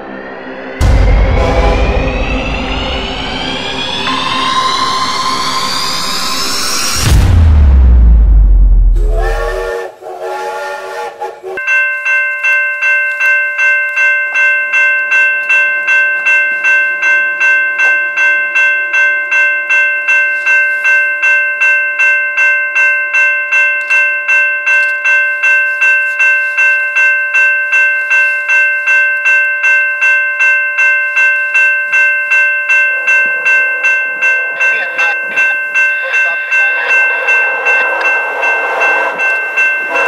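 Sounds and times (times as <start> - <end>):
level crossing warning bell: 0.0 - 7.3, 10.5 - 40.0.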